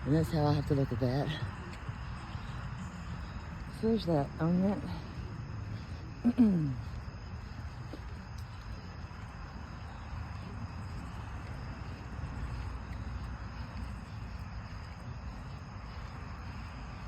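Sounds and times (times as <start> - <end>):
low outdoor night rumble: 0.0 - 17.0.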